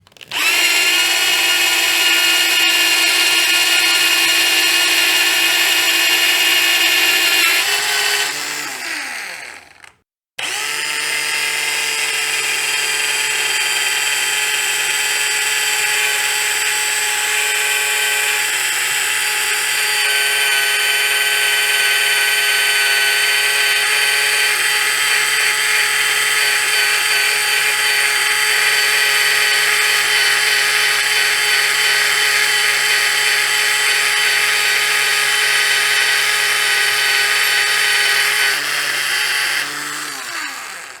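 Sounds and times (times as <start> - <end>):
power drill motor whining: 0.0 - 41.0.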